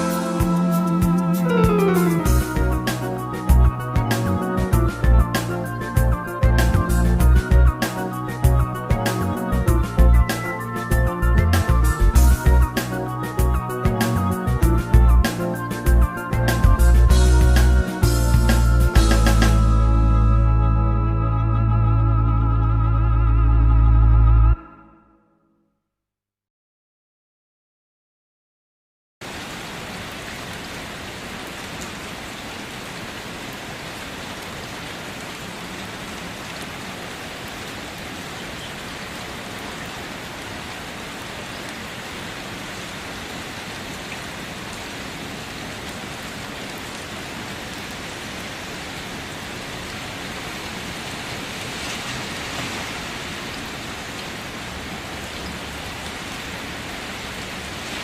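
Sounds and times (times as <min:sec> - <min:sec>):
steady rain falling: 0:00.0 - 0:20.3, 0:29.2 - 0:58.0.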